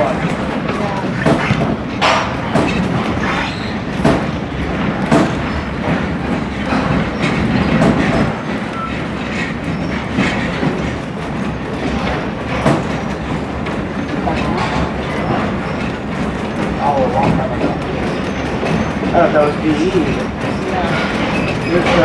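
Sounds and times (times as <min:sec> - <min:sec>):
train coach rumbling: 0:00.0 - 0:22.0
wheel clicks over rail joints: 0:00.0 - 0:22.0.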